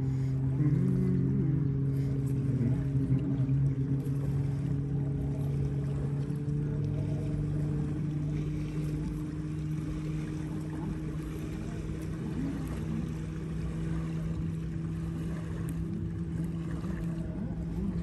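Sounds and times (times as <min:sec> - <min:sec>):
motorboat engine droning: 0:00.0 - 0:18.0.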